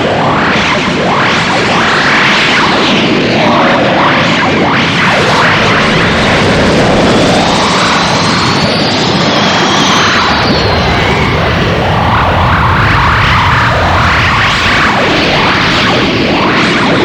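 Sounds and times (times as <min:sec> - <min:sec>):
energy beam rushing roar: 0:00.3 - 0:17.0.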